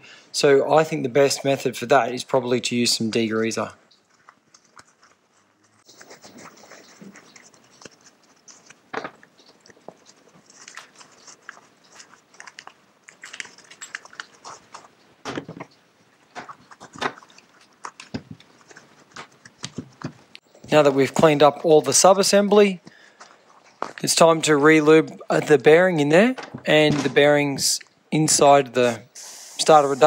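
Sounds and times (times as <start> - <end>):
rag rubbing and crinkling: 3.0 - 27.8.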